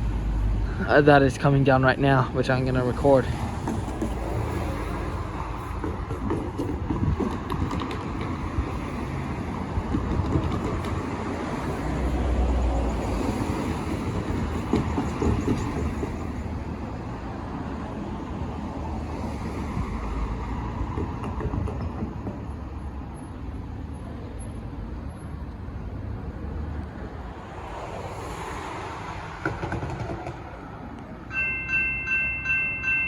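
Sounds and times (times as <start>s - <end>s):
electric train rumbling past: 2.1s - 24.7s, 26.9s - 33.0s.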